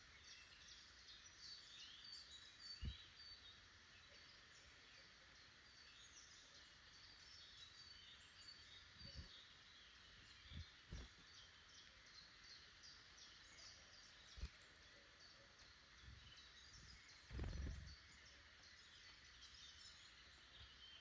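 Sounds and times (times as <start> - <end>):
soft hiss: 0.0 - 21.0
songbirds chirping: 0.0 - 21.0.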